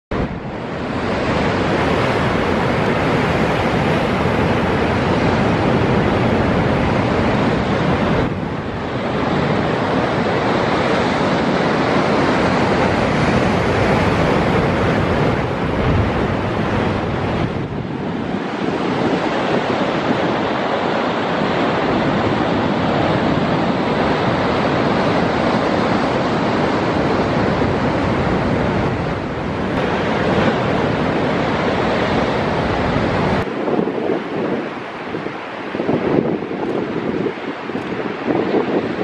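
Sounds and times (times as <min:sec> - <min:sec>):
surf breaking against cliffs: 0:00.1 - 0:39.0
wind on microphone: 0:00.1 - 0:39.0.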